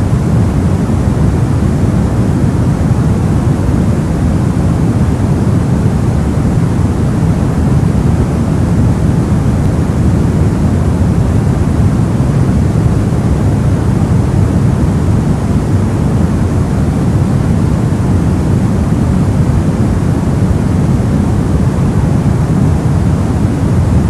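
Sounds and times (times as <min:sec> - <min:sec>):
soft white noise: 0:00.0 - 0:24.0.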